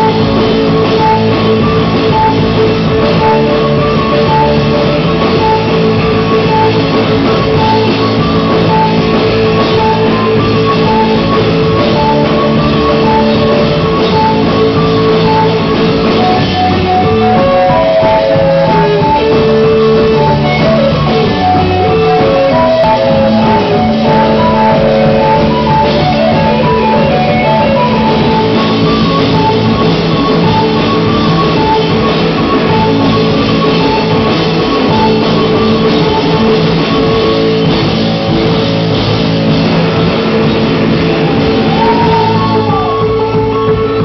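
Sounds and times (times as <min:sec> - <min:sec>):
drum kit: 0:00.0 - 0:44.0
electric guitar: 0:00.0 - 0:44.0
keyboard: 0:00.0 - 0:44.0.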